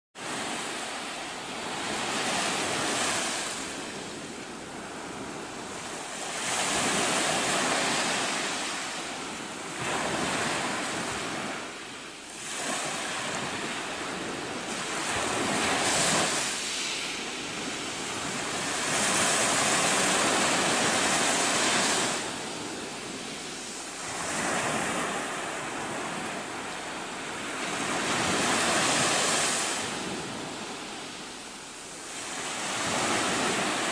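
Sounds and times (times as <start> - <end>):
waves breaking and washing back: 0.2 - 33.9.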